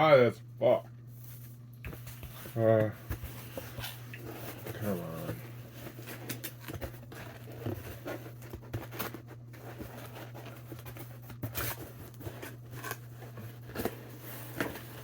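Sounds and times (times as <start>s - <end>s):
steady low hum: 0.0s - 15.0s
cardboard box scraping and rustling: 2.4s - 15.0s.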